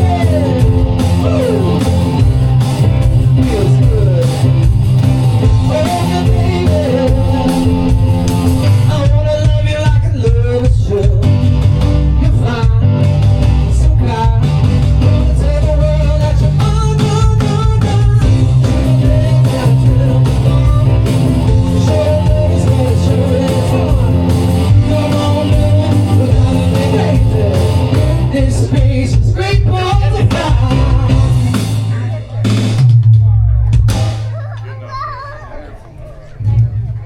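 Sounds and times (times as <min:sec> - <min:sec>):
person singing: 0:00.0 - 0:04.7, 0:05.4 - 0:11.4, 0:12.0 - 0:31.6
rock band playing: 0:00.0 - 0:35.3.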